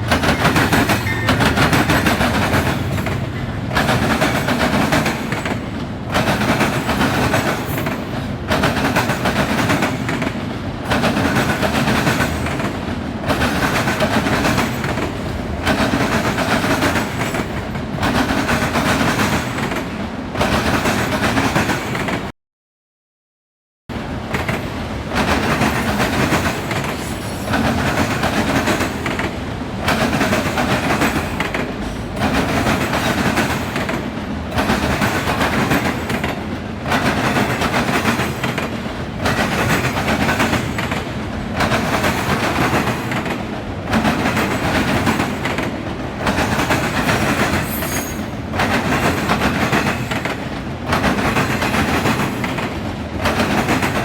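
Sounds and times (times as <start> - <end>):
freight train wheels clattering: 0.0 - 22.3, 24.2 - 54.0.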